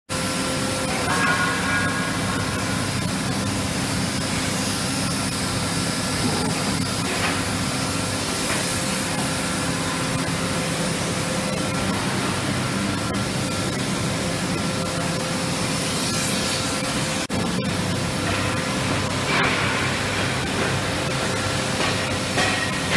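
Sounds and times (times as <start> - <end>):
steady machine tones: 0.1 - 22.9.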